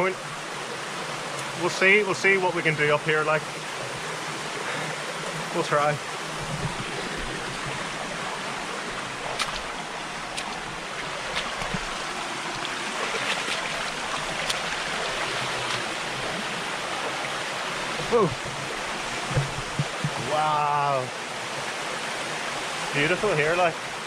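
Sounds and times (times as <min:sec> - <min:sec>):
forest stream and waterfall rushing: 0:00.0 - 0:24.0.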